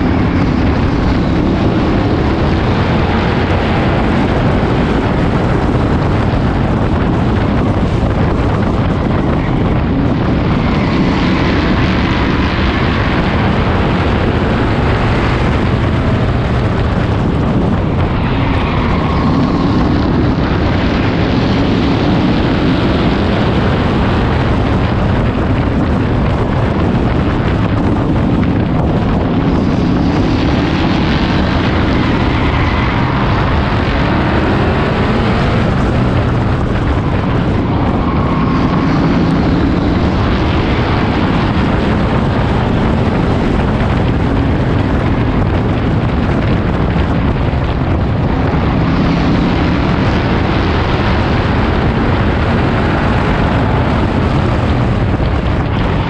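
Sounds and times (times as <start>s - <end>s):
race car engine running hard: 0.0s - 56.0s
wind rushing over microphone: 0.0s - 56.0s.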